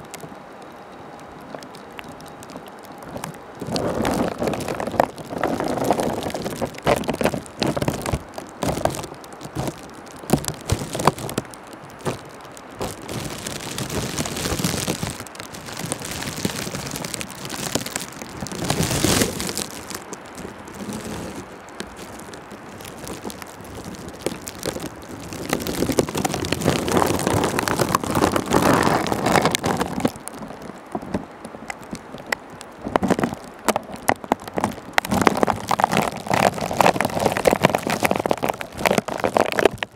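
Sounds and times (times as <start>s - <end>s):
crackle of clicks and pops: 0.0s - 39.9s.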